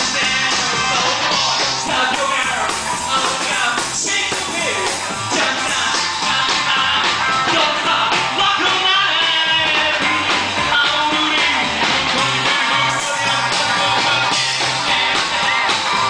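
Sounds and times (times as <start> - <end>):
rock and roll band playing: 0.0 - 16.0.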